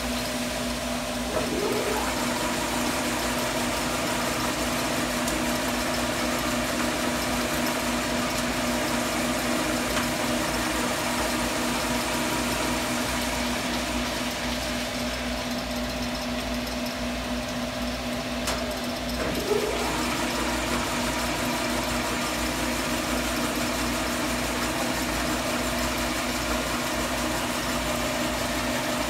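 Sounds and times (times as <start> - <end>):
lathe motor humming and whirring: 0.0 - 29.0.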